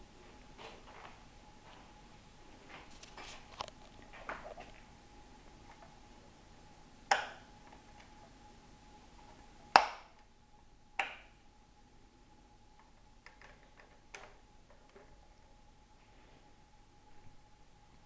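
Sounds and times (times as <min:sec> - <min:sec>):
fan airflow hiss: 0:00.0 - 0:18.0
fan motor hum: 0:00.0 - 0:18.0.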